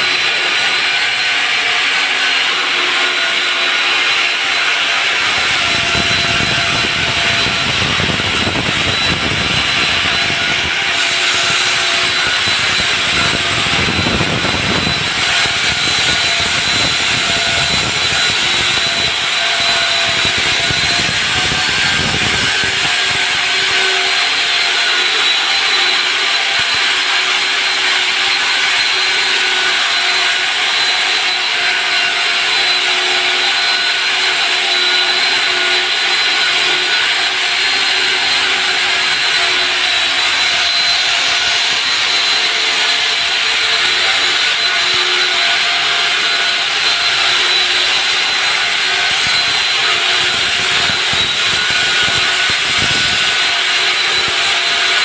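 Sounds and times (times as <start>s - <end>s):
core drill cutting concrete: 0.0s - 55.0s.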